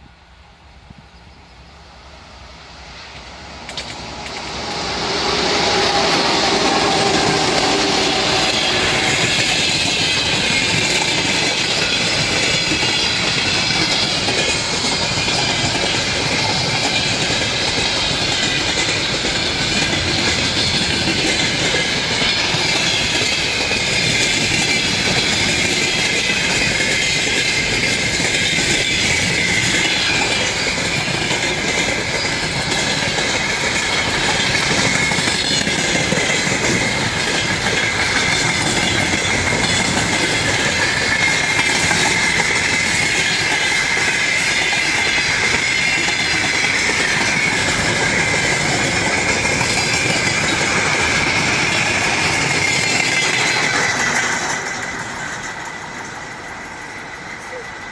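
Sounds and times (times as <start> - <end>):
train wheels rumbling: 0.0 - 57.9
clickety-clack over rail joints: 2.9 - 57.9.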